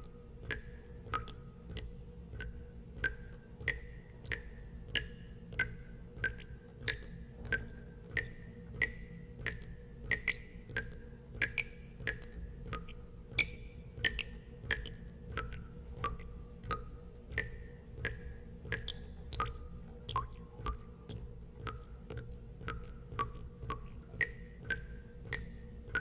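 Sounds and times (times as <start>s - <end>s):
low steady hum: 0.0s - 26.0s
water drops plinking into water: 0.0s - 26.0s.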